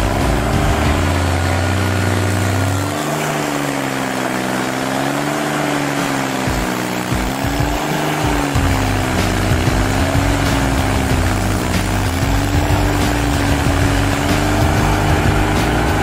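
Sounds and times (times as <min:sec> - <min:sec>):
stump grinder engine running: 0:00.0 - 0:16.0.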